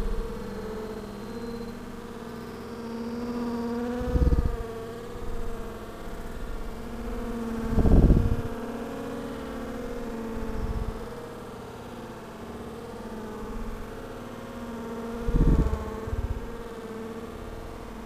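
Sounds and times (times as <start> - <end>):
bees humming: 0.0 - 18.0.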